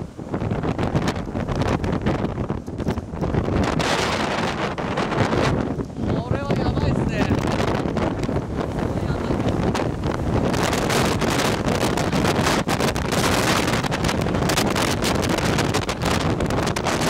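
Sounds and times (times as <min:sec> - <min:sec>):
wind battering microphone: 0:00.0 - 0:17.0.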